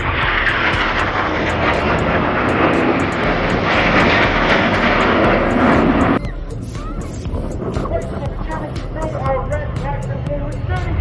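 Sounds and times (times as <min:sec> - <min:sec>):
jets passing overhead: 0:00.0 - 0:11.0.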